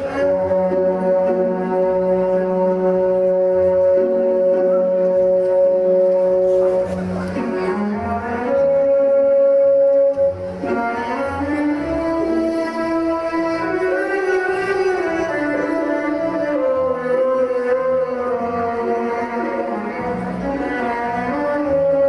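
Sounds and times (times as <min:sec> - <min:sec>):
slow orchestral ballet music: 0:00.0 - 0:22.0.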